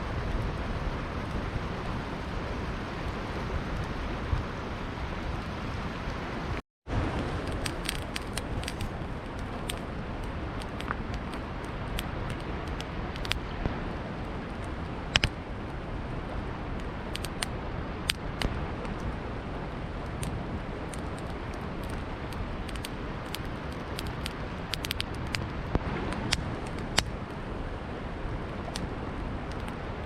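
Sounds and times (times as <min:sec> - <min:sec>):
campfire crackling and popping: 0:00.0 - 0:30.0
flowing river water: 0:00.0 - 0:30.0.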